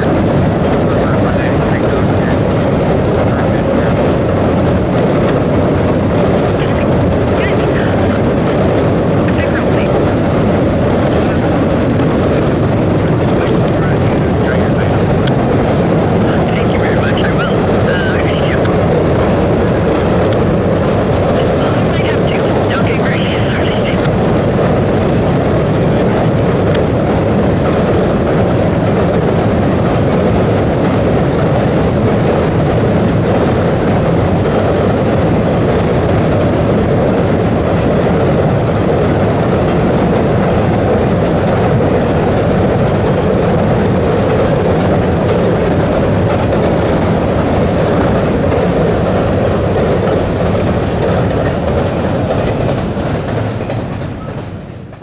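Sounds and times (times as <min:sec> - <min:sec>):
freight train wheels rumbling on bridge: 0:00.0 - 0:55.0.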